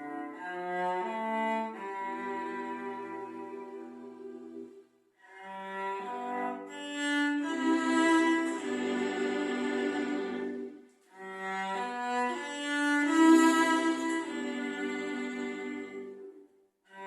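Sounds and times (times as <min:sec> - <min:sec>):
bowed strings playing slow melody: 0:00.0 - 0:16.4.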